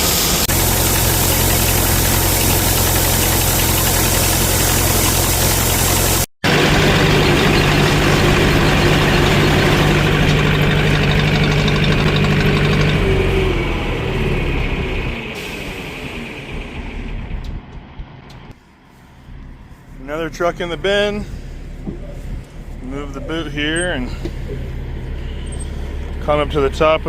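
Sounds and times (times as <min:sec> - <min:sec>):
heavy farm vehicle engine running: 0:00.0 - 0:27.0.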